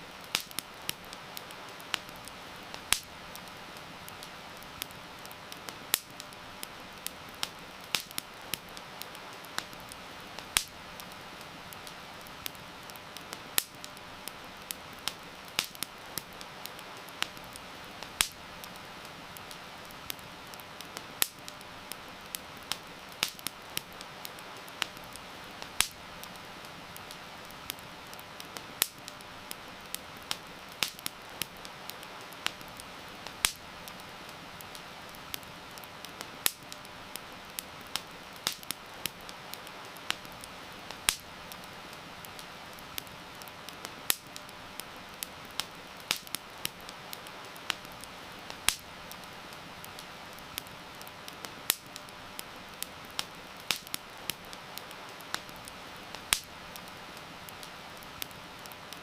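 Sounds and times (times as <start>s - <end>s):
rain hissing: 0.0s - 59.0s
wood fire crackling and popping: 0.0s - 59.0s.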